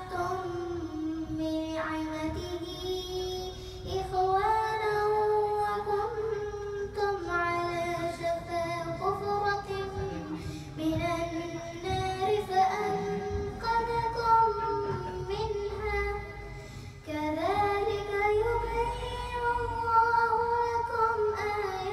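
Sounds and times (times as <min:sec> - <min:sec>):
girl chanting melodically: 0:00.0 - 0:21.9.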